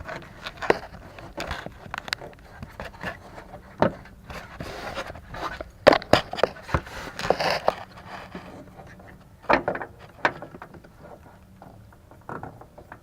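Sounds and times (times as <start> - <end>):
plastic clicks knocks and scrapes: 0.0 - 13.0.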